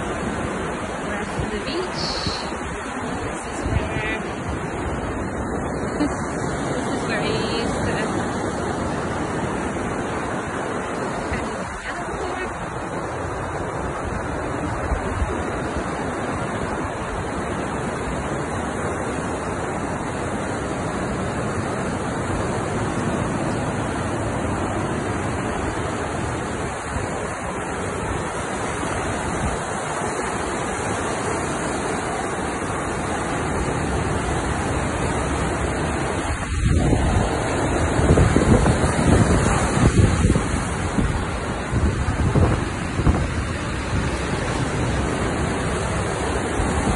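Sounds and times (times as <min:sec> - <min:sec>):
wind buffeting microphone: 0:00.0 - 0:17.4, 0:21.8 - 0:46.9
surf washing onto beach: 0:00.0 - 0:46.9.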